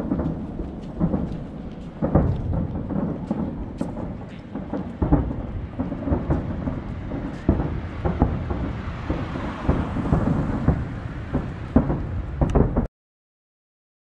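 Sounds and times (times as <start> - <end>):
distant fireworks booming: 0.0 - 12.9
sharp firework reports: 0.0 - 12.9.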